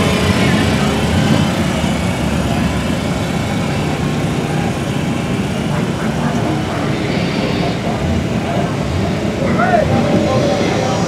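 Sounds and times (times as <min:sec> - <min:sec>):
large engine idling: 0:00.0 - 0:11.0.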